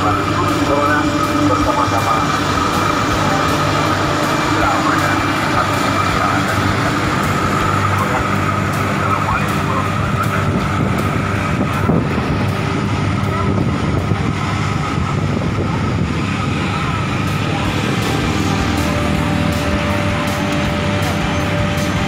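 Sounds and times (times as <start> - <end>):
passing street traffic: 0.0 - 22.0
truck sprayer engine drone with whine: 0.0 - 22.0.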